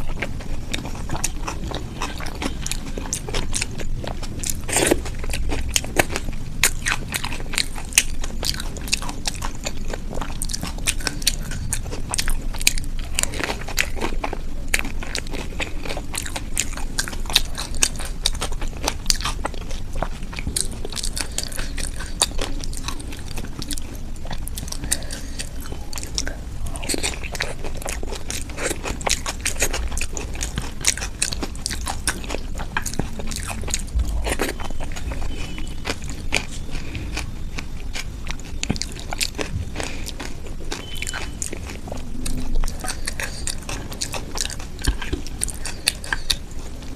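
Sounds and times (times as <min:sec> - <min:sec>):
crunchy chewing: 0:00.0 - 0:46.9.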